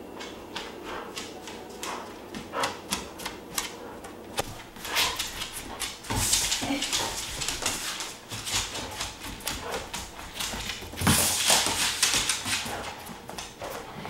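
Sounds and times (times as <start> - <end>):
dog claws clicking on floor: 0.2 - 14.0.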